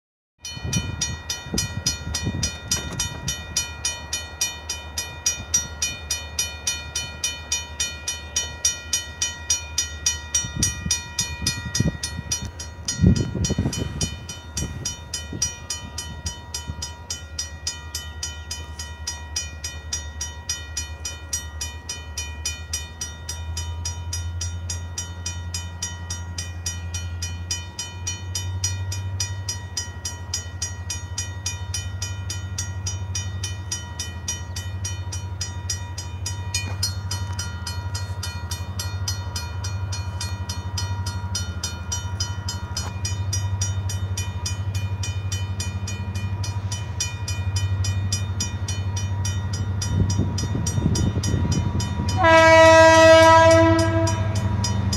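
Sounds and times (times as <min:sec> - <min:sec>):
railroad crossing bell ringing: 0:00.4 - 0:54.9.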